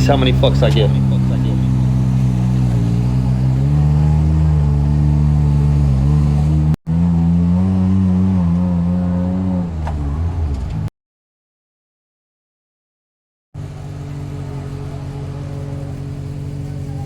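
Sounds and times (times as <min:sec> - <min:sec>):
utility vehicle engine revving: 0:00.0 - 0:10.9, 0:13.6 - 0:17.0.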